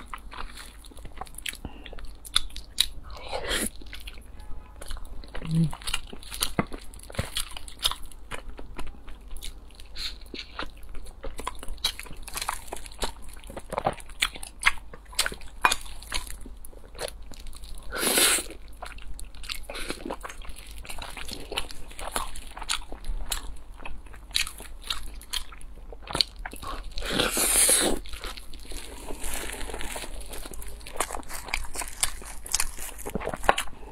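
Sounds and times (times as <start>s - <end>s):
chewing a soft bun: 0.0s - 33.9s.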